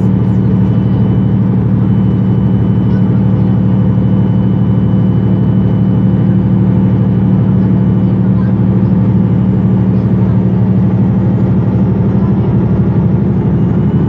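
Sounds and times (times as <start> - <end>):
bus diesel engine idling: 0.0 - 14.0.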